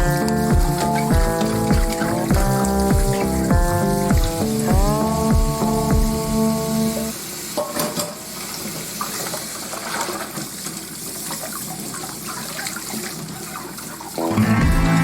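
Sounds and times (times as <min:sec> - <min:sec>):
water running from tap: 0:00.0 - 0:14.3.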